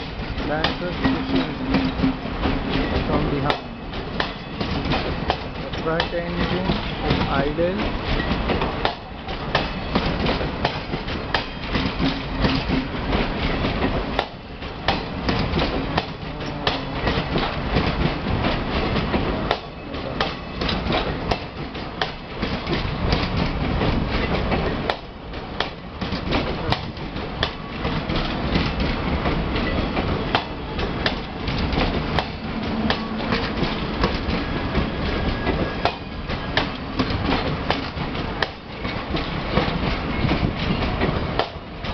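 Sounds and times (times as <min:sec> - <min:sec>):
train rumble: 0:00.0 - 0:41.9
train wheels clattering over rail joints: 0:00.0 - 0:41.9.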